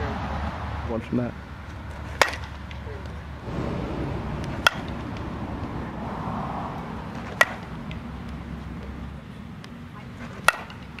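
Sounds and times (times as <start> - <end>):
bat hitting balls: 1.7 - 11.0.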